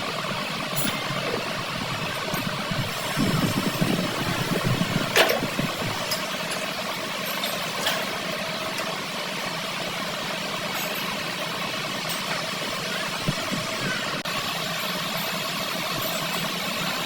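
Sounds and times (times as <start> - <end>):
workshop machine humming: 0.0 - 17.0.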